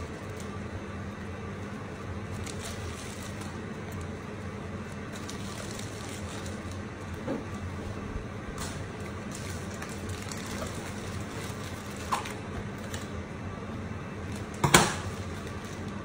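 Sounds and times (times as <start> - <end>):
piping bag handling: 0.0 - 13.2, 14.2 - 16.0
steady low hum: 0.0 - 16.0.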